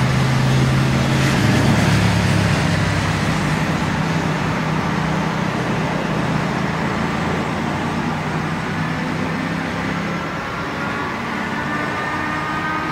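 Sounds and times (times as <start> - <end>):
jet engines running: 0.0 - 12.9.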